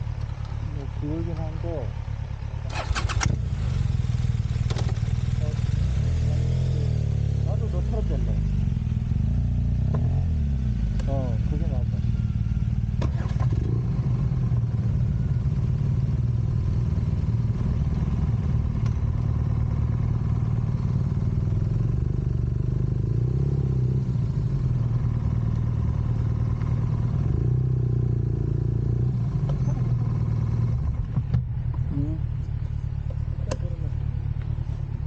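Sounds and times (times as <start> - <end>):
road noise: 0.0 - 35.0
vehicle engine: 0.0 - 35.0.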